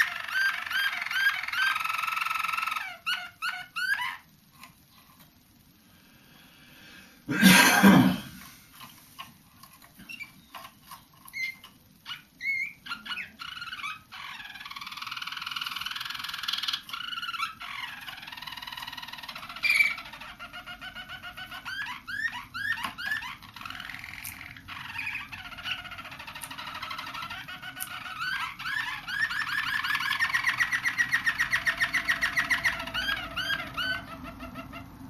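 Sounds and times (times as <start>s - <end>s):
canaries chirping: 0.0s - 4.8s, 9.8s - 35.0s
canary trilling song: 0.0s - 5.8s, 9.2s - 35.0s.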